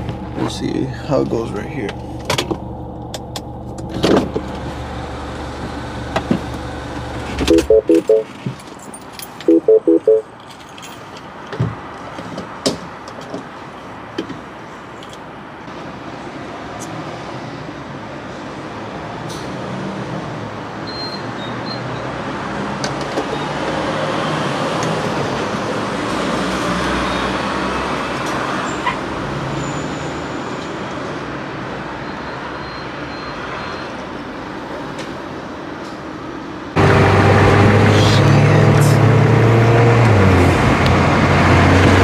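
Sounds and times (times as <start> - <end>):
road traffic rush: 0.0 - 42.0.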